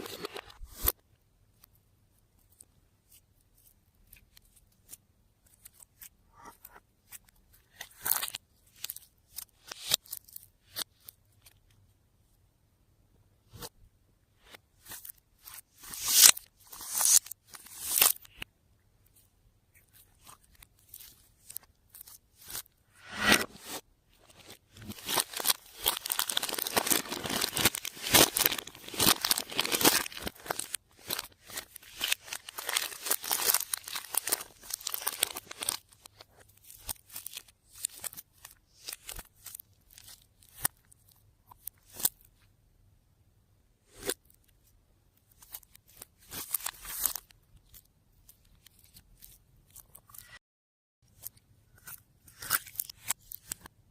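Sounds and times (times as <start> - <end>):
crackling and crinkling: 0.0 - 11.9, 14.4 - 42.5, 43.9 - 50.4, 51.0 - 53.9.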